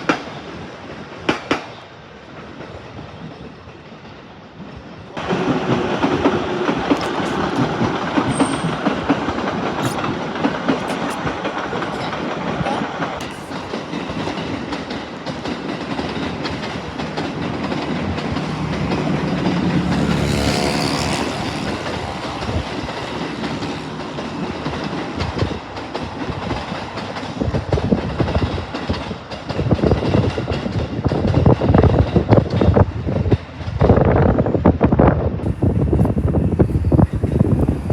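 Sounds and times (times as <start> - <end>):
wheels clacking over rail joints: 0.0 - 34.4
electric train running on tracks: 0.0 - 37.9.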